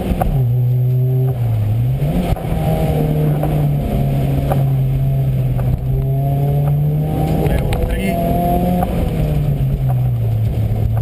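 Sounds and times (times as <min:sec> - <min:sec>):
rally car engine under throttle: 0:00.0 - 0:11.0.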